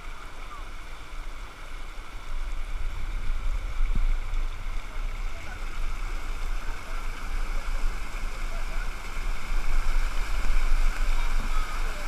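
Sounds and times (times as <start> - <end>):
low microphone rumble: 0.0 - 12.0
stream rushing over rocks: 0.0 - 12.0.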